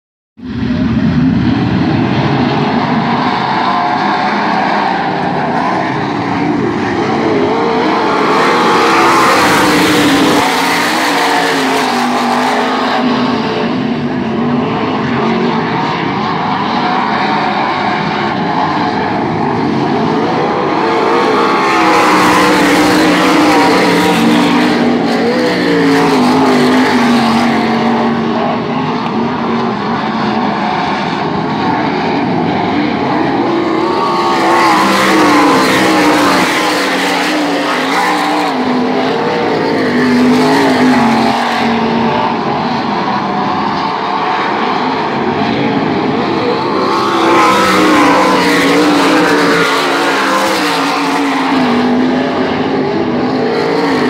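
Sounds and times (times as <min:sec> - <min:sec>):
race cars racing at high revs: 0:00.4 - 0:54.0.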